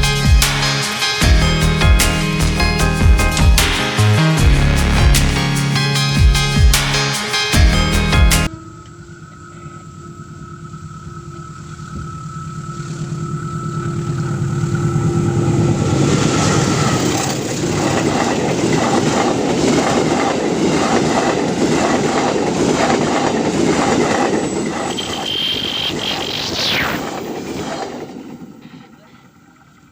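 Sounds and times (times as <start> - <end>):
diesel locomotive engine drone: 0.0 - 29.9.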